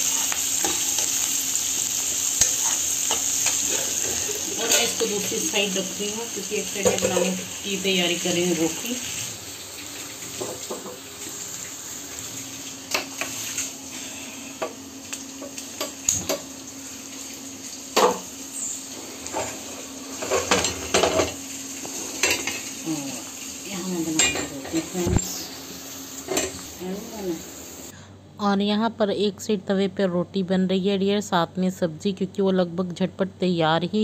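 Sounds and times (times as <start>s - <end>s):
frying sizzle: 0.0s - 27.9s.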